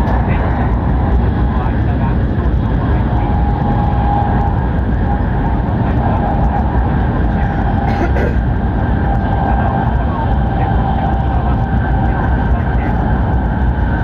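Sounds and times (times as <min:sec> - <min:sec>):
train cabin rumble and hum: 0:00.0 - 0:14.0.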